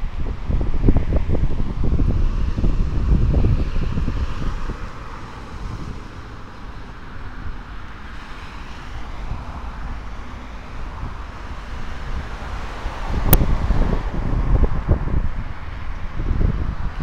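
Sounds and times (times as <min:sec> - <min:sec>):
road traffic hum: 0:00.0 - 0:17.0
wind buffeting microphone: 0:00.0 - 0:17.0.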